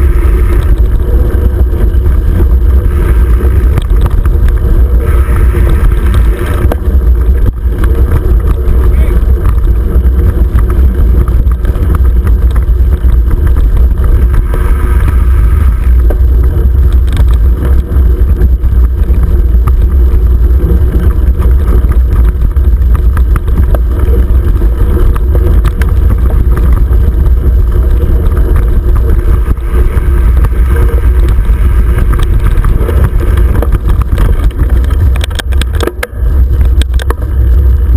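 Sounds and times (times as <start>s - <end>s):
bike rattling on rough trail: 0.0s - 37.9s
wind buffeting microphone: 0.0s - 37.9s.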